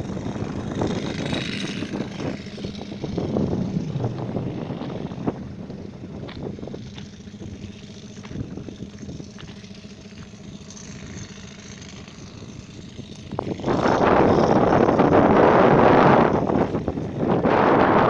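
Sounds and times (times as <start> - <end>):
machine engine running: 0.0 - 18.0
wind on microphone: 0.0 - 18.0.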